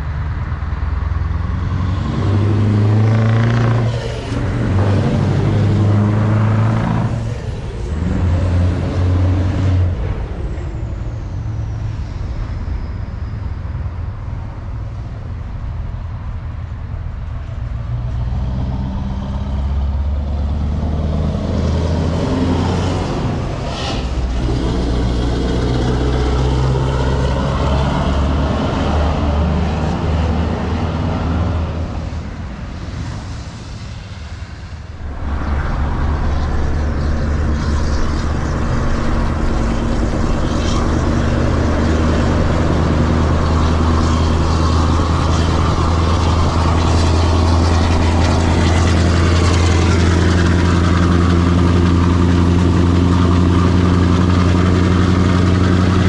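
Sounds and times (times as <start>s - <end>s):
road noise: 0.0s - 56.0s
truck engine drone: 0.0s - 56.0s.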